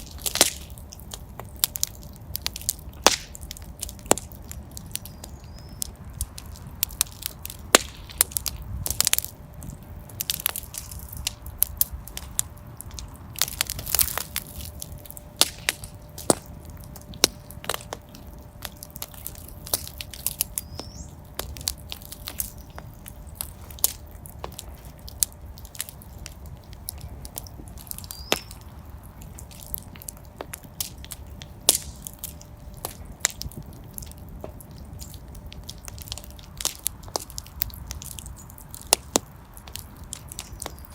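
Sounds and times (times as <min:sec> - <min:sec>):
fire crackling and popping: 0:00.0 - 0:40.9
low rumble of flames: 0:00.0 - 0:40.9.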